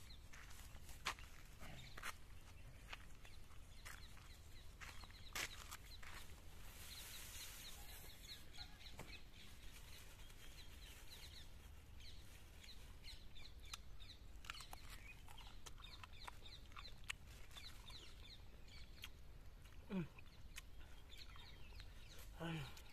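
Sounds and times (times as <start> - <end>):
faint bird chirping: 0.0 - 22.9.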